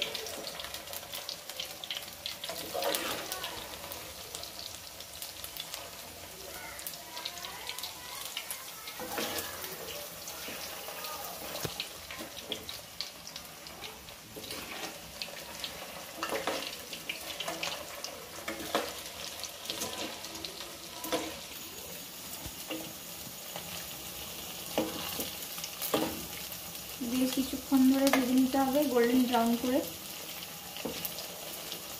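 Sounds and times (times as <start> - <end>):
food sizzling in hot oil: 0.0 - 31.9.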